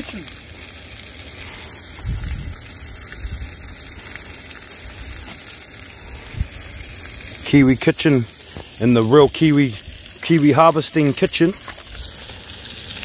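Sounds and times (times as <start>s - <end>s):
fish frying in a pan: 0.0s - 13.0s.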